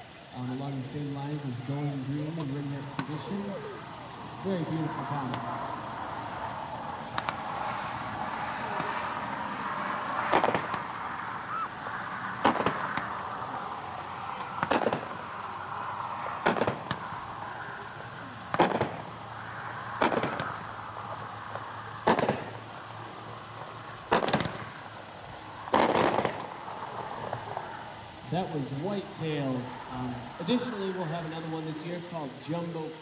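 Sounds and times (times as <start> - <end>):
firework shells bursting: 0.0 - 33.0.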